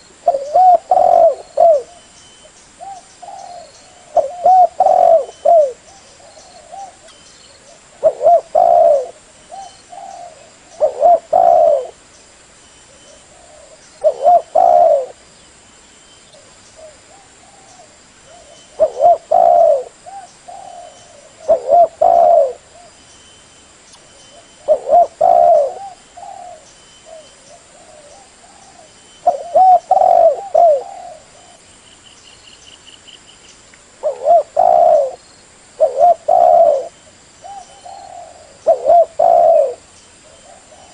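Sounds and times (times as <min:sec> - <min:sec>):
dove cooing: 0:00.2 - 0:02.1, 0:02.8 - 0:12.0, 0:12.9 - 0:15.2, 0:16.4 - 0:23.0, 0:24.3 - 0:31.6, 0:34.0 - 0:35.2, 0:35.8 - 0:40.9.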